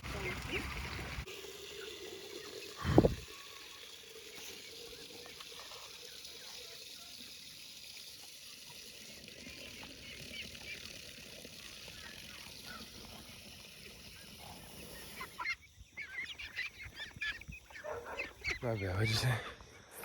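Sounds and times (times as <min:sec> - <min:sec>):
water running: 0:00.0 - 0:19.3.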